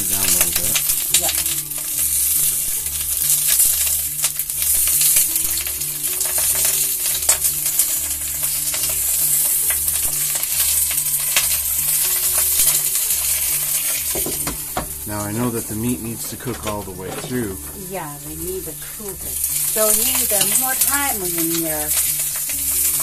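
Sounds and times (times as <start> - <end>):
peppers frying in hot oil: 0.0 - 23.0.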